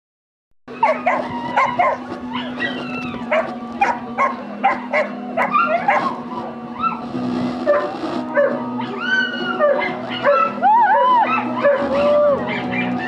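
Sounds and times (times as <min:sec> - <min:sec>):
dog yipping: 0:00.7 - 0:06.2, 0:07.7 - 0:13.0.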